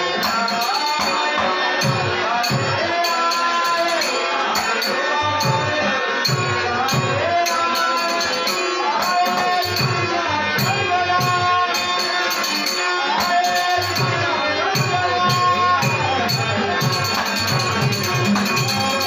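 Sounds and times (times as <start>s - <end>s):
harmonium chords: 0.0s - 19.0s
man singing devotional song: 0.0s - 19.0s.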